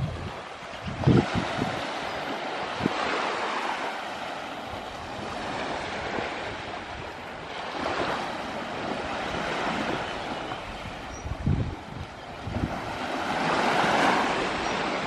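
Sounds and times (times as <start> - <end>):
small waves washing onto shore: 0.0 - 15.0
wind buffeting microphone: 0.0 - 15.0.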